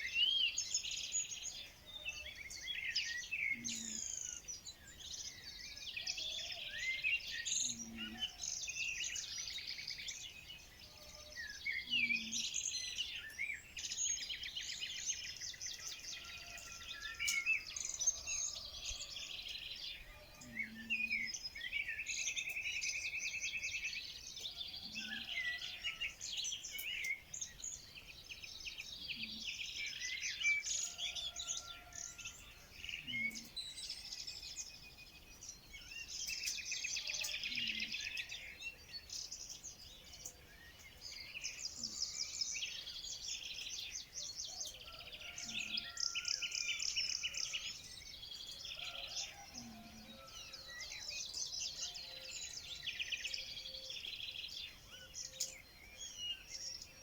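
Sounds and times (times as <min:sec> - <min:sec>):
birds singing and chirping: 0:00.0 - 0:57.0.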